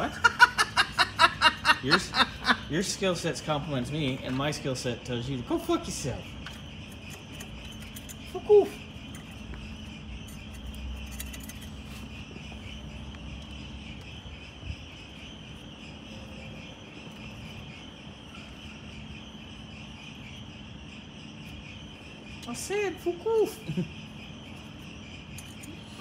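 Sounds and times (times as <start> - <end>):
crickets chirping: 0.0 - 26.0
faint low hum: 0.0 - 26.0.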